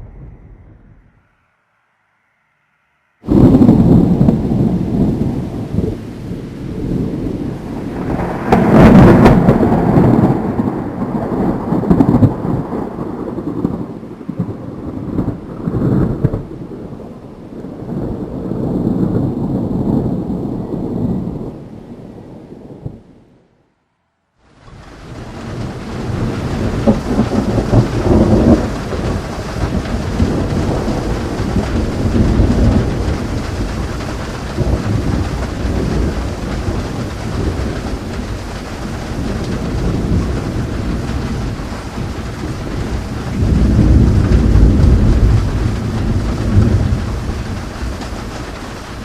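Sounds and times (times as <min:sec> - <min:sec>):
rolling thunder: 0:00.0 - 0:01.2, 0:03.2 - 0:23.3, 0:24.7 - 0:49.0
steady rain: 0:03.2 - 0:23.6, 0:24.4 - 0:49.0.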